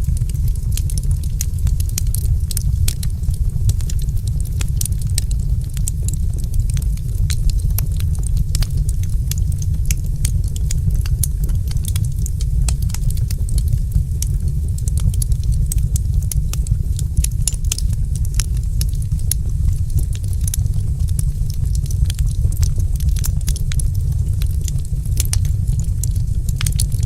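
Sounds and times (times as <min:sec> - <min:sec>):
fire crackling and popping: 0:00.0 - 0:27.0
low rumble of fire: 0:00.0 - 0:27.0.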